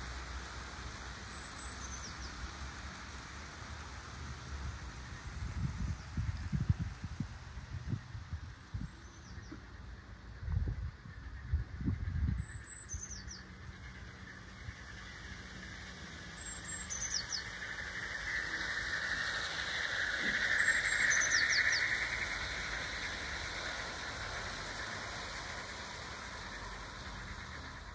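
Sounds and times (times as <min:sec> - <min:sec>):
model train running on track: 0:00.0 - 0:27.9.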